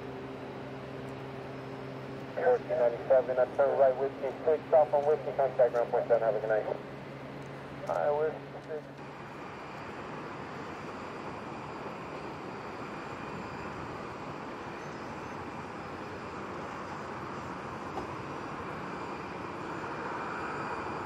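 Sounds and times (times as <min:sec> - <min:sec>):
jet engine rush with high whine: 0:00.0 - 0:21.0.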